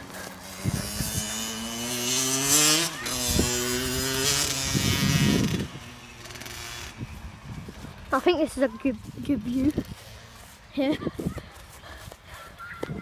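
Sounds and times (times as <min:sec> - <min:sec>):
dirt bike engine revving: 0:00.0 - 0:10.9.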